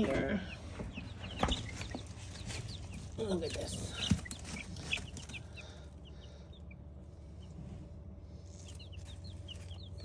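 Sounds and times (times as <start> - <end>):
chicks peeping: 0.0 - 10.0
low steady hum: 0.0 - 10.0.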